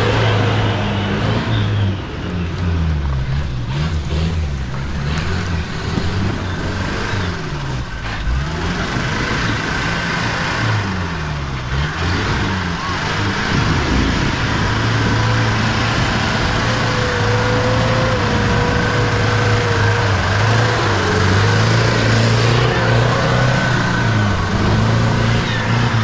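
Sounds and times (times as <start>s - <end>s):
loud engine running: 0.0s - 26.0s.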